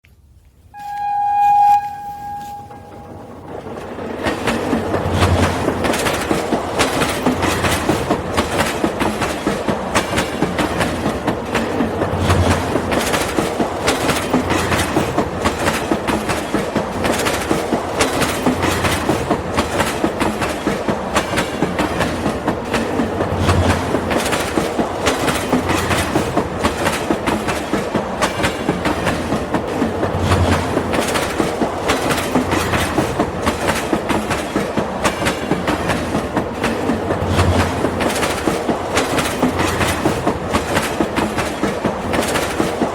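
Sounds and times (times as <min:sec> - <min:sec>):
train clattering: 0:00.8 - 0:42.9.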